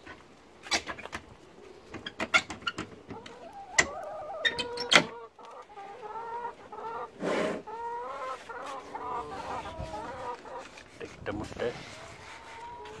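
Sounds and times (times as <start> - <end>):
hens clucking: 0.0 - 13.0
rustle: 0.0 - 13.0.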